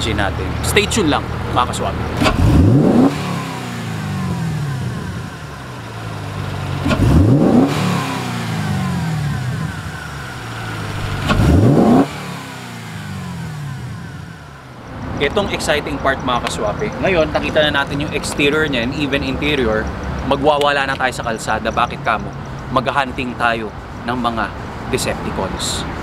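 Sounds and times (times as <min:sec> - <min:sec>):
car engine revving: 0:00.0 - 0:25.2.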